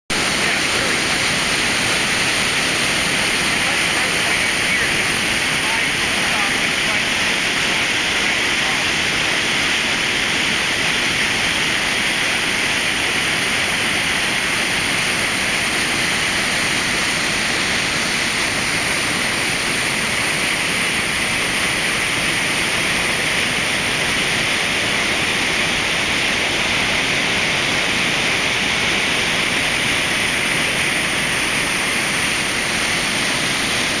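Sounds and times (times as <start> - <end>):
stream rushing over rocks: 0.1 - 34.0.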